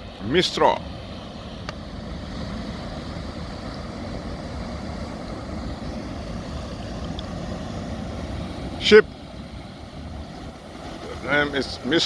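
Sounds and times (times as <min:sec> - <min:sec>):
ship engine rumbling: 0:00.0 - 0:12.0.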